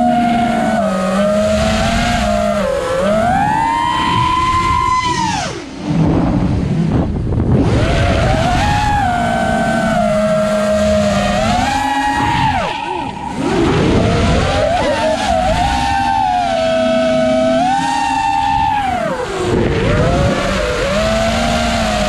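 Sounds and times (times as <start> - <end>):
quadcopter motors whining: 0.0 - 22.0
wind on microphone: 0.0 - 22.0.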